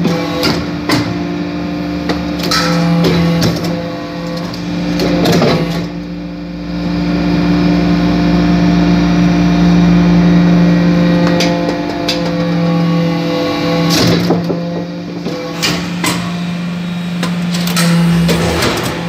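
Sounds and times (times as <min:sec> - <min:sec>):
hydraulic press humming drone: 0:00.0 - 0:19.0.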